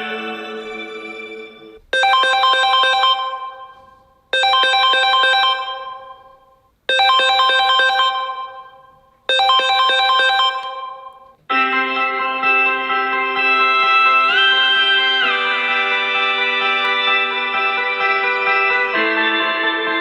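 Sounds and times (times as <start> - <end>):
chime-like phone ringtone: 0.0 - 20.0
ringtone with synth chords: 0.0 - 20.0.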